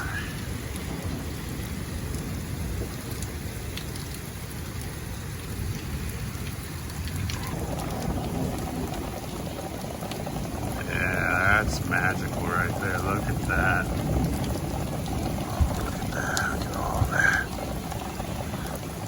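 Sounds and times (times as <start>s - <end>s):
heavy rain pouring: 0.0s - 19.0s
thunder rumbling: 0.0s - 19.0s.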